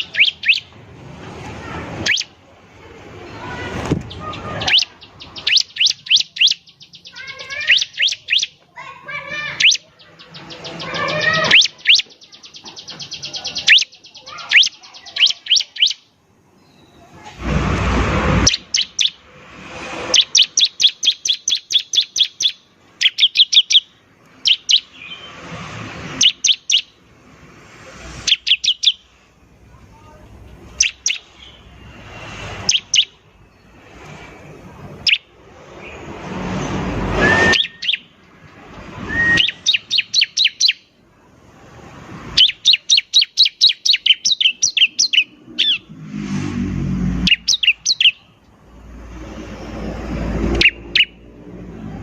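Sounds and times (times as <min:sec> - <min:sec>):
bird chirping: 0:00.0 - 0:00.8, 0:02.0 - 0:02.4, 0:03.3 - 0:17.2, 0:18.4 - 0:25.5, 0:26.1 - 0:27.0, 0:28.2 - 0:29.2, 0:30.6 - 0:34.1, 0:34.8 - 0:41.0, 0:42.3 - 0:51.4.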